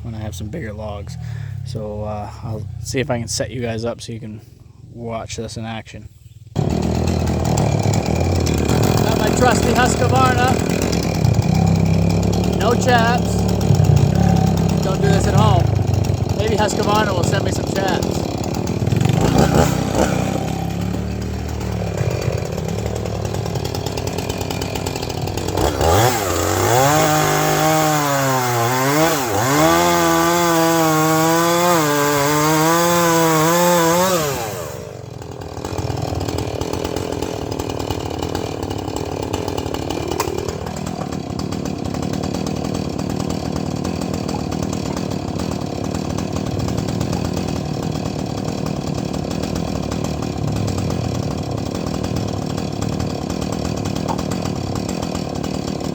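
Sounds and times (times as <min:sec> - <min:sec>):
chainsaw cutting logs: 0:06.6 - 0:55.9.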